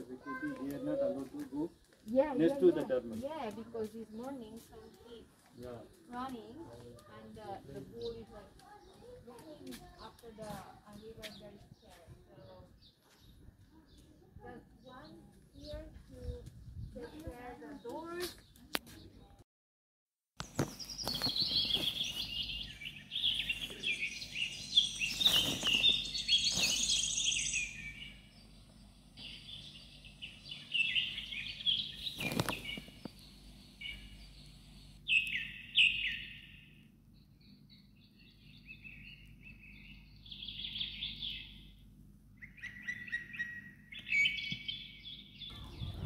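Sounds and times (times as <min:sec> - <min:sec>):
small birds chirping: 0:00.0 - 0:19.4, 0:20.4 - 0:46.0.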